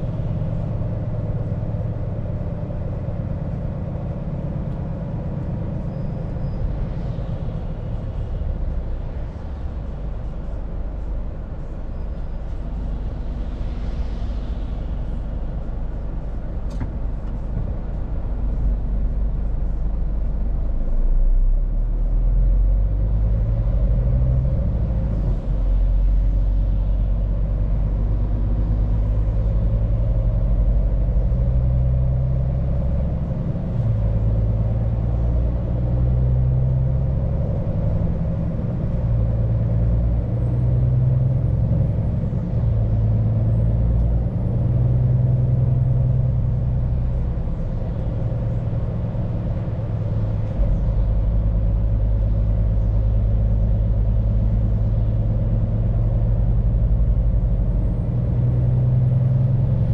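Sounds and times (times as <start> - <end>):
truck diesel engine droning: 0.0 - 59.9
tyre and road noise: 0.0 - 59.9.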